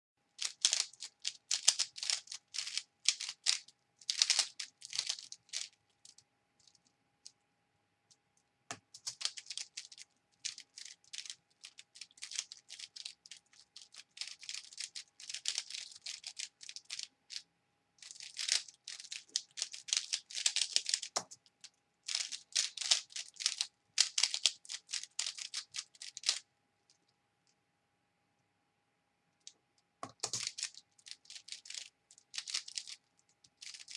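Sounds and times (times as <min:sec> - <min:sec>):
puzzle cube layers clicking: 0:00.4 - 0:06.9, 0:08.1 - 0:27.1, 0:29.5 - 0:33.9.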